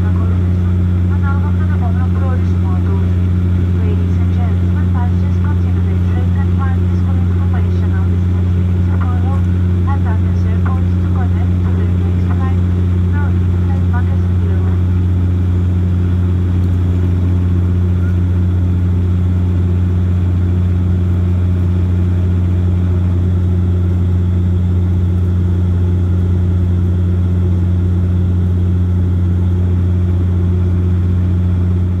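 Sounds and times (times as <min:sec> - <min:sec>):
turboprop engine drone: 0:00.0 - 0:32.0.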